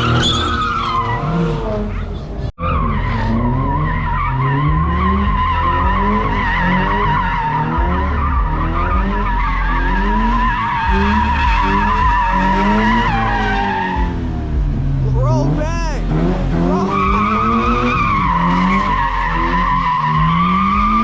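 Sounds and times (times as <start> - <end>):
car engine revving: 0.0 - 21.0
car tyres squealing: 0.0 - 21.0.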